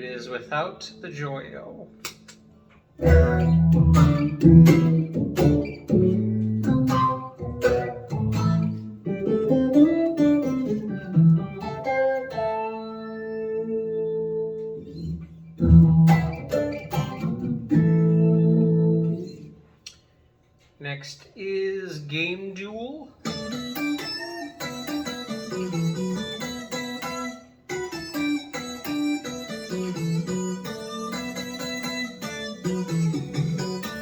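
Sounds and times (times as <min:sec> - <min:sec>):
electric guitar through synth pedal: 0:03.0 - 0:19.6, 0:23.2 - 0:34.0.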